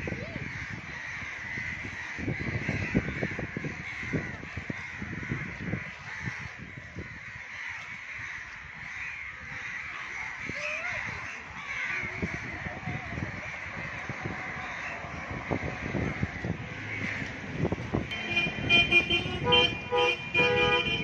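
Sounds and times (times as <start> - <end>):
birds calling and chattering: 0.0 - 19.1.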